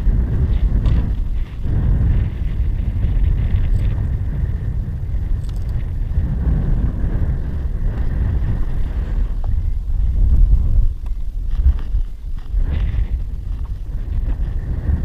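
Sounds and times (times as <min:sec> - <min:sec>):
wind buffeting a microphone: 0:00.0 - 0:15.0.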